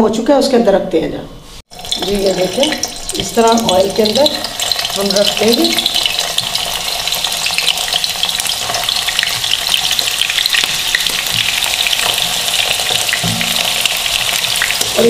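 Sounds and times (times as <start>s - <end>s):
potatoes frying in oil: 1.7s - 15.0s.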